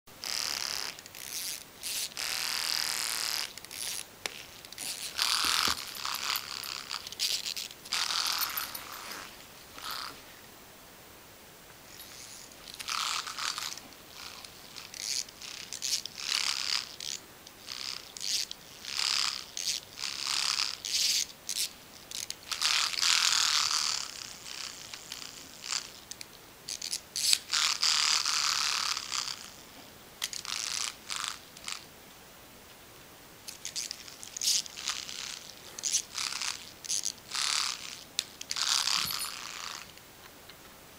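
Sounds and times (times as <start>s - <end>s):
vibrating toy buzzing and rattling: 0.2s - 10.2s, 11.9s - 29.6s, 30.2s - 31.8s, 33.5s - 40.0s.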